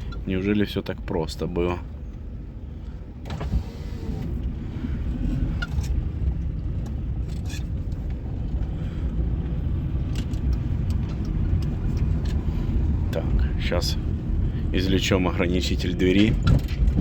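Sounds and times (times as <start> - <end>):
interior clicks and creaks: 0.0 - 17.0
road and engine rumble: 0.0 - 17.0.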